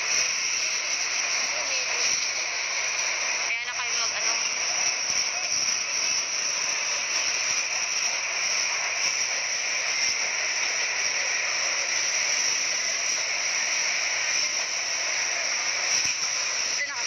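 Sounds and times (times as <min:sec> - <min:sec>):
water spray and steam hissing: 0:00.0 - 0:17.0.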